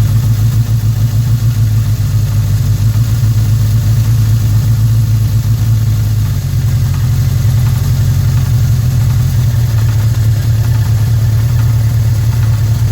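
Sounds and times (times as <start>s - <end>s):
engine knock: 0.0s - 12.9s
motorcycle engine idling: 0.0s - 12.9s.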